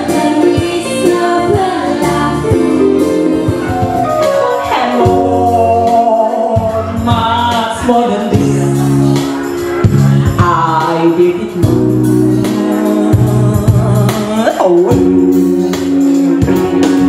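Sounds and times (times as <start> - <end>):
woman singing into microphone: 0.0 - 8.9, 10.2 - 15.7
electronic keyboard chords: 0.0 - 17.0.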